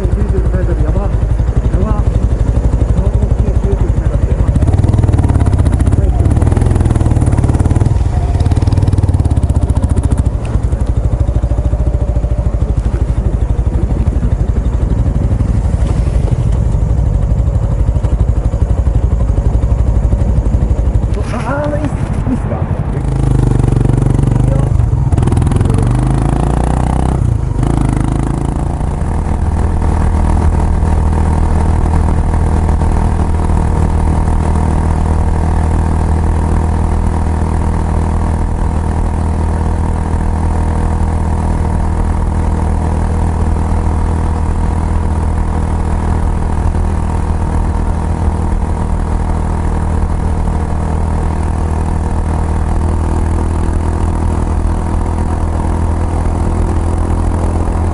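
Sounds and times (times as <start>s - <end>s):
single-cylinder motorcycle engine running: 0.0s - 57.9s.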